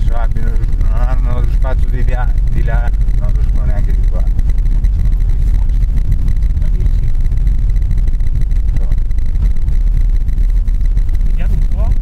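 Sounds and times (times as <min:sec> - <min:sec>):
engine and tyre rumble in car: 0:00.0 - 0:12.0.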